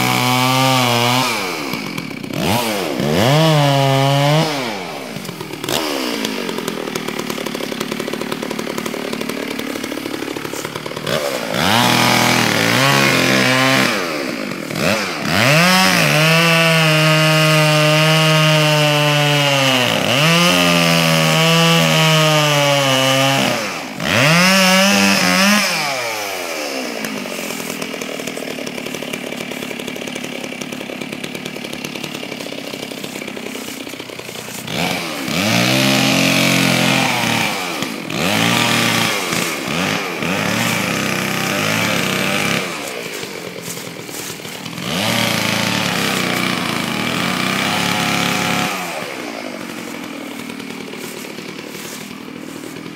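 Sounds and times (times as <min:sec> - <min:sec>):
two-stroke chainsaw revving: 0:00.0 - 0:52.9.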